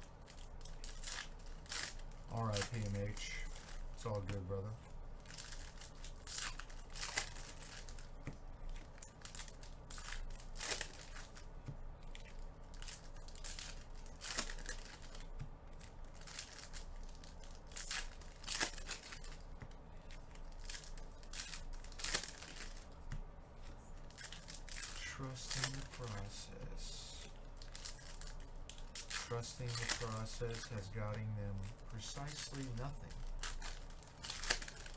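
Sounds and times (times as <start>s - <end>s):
foil packs tearing and crinkling: 0.3s - 8.1s, 8.7s - 11.4s, 12.1s - 22.9s, 24.0s - 34.9s.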